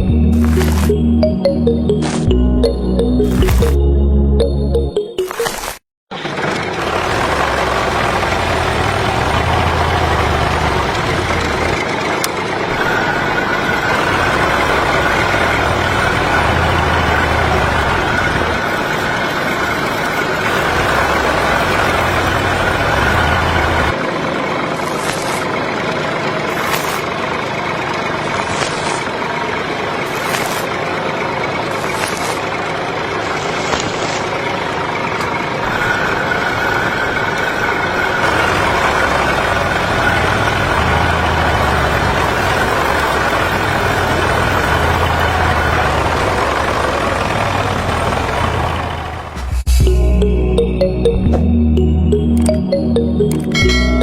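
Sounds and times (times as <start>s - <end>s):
heavy engine rumbling: 6.1s - 54.0s.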